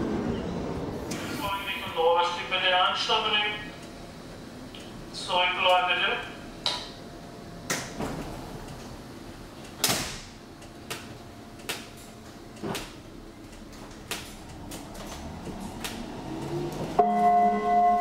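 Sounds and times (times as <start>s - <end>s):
train doors closing: 0.0s - 5.8s, 6.4s - 18.0s.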